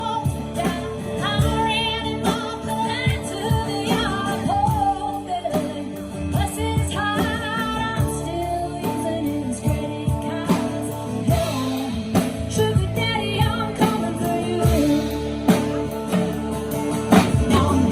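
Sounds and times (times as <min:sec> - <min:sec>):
instrumental backing with beat: 0:00.0 - 0:17.9
woman singing with vibrato: 0:00.0 - 0:17.9.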